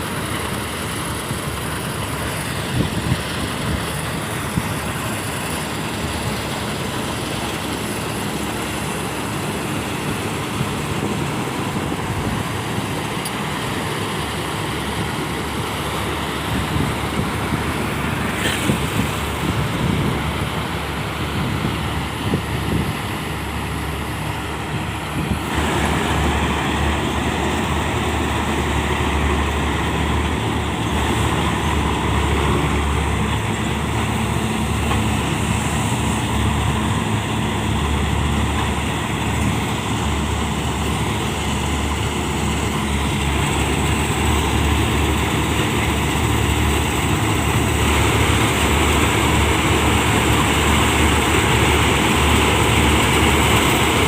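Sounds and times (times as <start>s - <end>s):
diesel machinery running: 0.0s - 54.0s.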